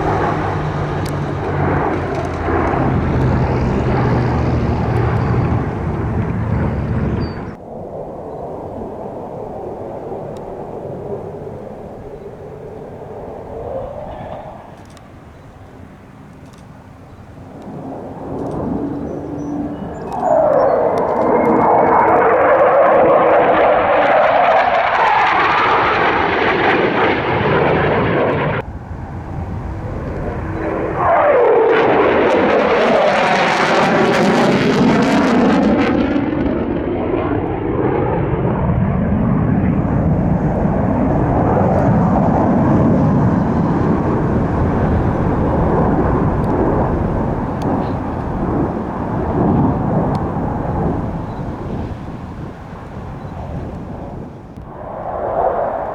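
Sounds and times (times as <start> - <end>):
airplane roaring past: 0.0 - 55.9.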